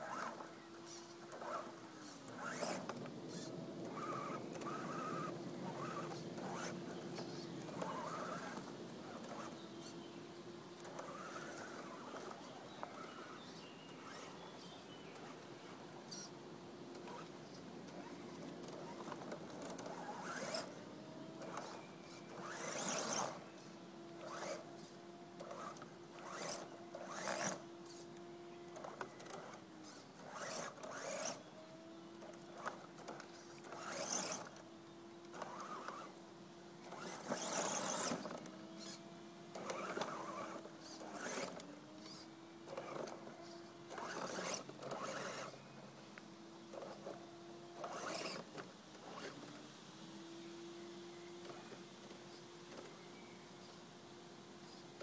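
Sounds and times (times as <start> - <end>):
electric motor and gears whining: 0.0 - 10.1, 10.8 - 16.3, 16.9 - 45.7, 46.6 - 53.8.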